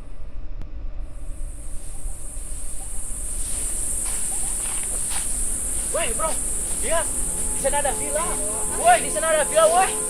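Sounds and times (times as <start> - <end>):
low rumble: 0.0 - 10.0
high-pitched insect drone: 1.2 - 10.0.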